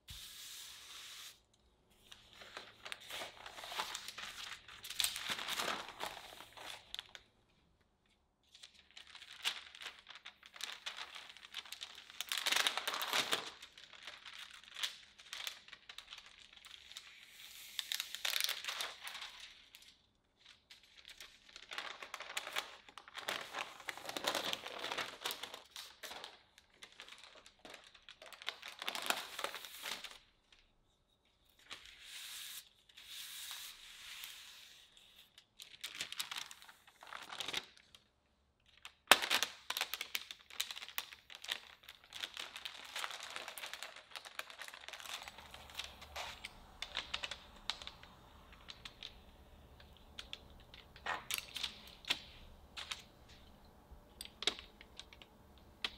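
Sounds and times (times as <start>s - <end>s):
parchment paper rustling: 0.0s - 7.3s, 8.4s - 30.7s, 31.4s - 38.0s, 38.6s - 55.9s.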